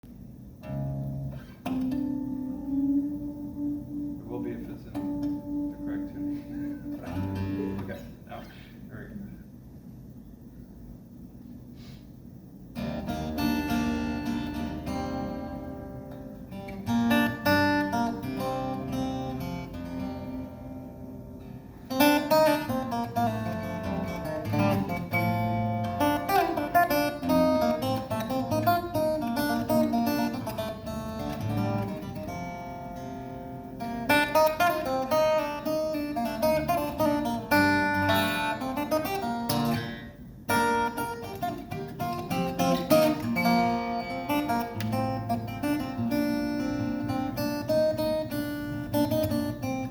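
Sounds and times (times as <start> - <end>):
acoustic guitar playing: 0.1 - 8.3, 11.4 - 49.9.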